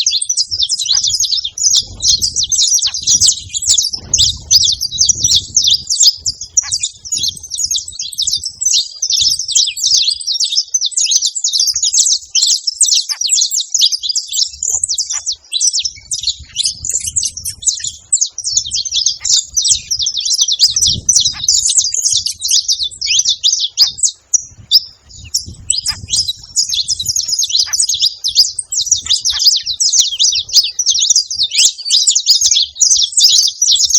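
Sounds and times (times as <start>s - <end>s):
finch singing high chirps: 0.0s - 33.9s.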